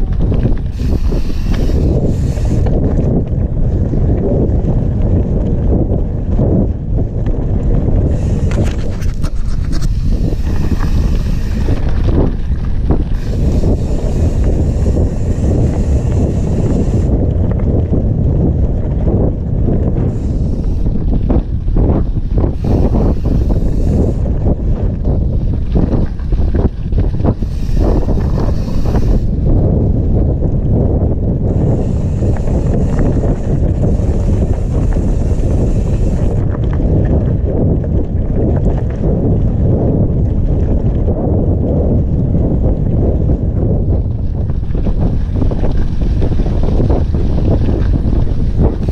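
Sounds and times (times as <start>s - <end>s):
bike tyres rolling on gravel: 0.0s - 48.9s
wind buffeting microphone: 0.0s - 48.9s.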